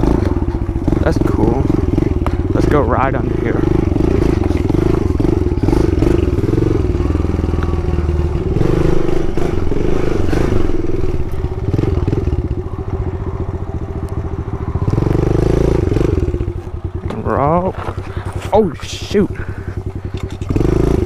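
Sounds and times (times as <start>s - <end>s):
motorbike engine running: 0.0s - 21.0s.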